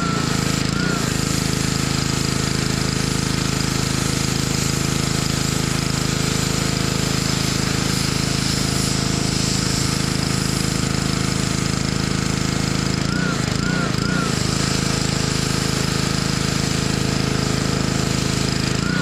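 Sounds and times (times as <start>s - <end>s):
small gasoline engine running: 0.0s - 19.0s.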